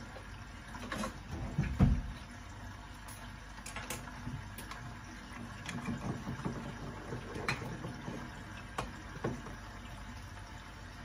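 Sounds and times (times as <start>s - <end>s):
sausages bubbling in covered pan: 0.0s - 11.0s.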